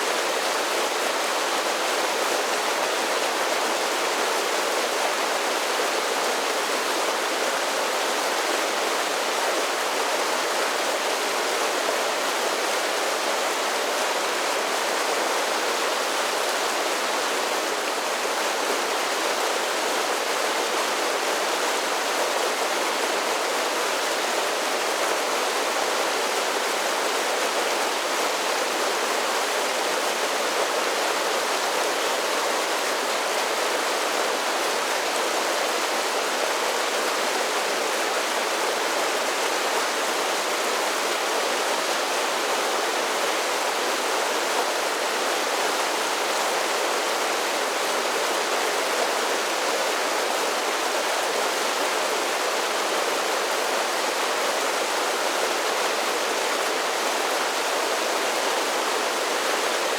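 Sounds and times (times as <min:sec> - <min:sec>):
creek rushing over small falls: 0:00.0 - 0:59.9.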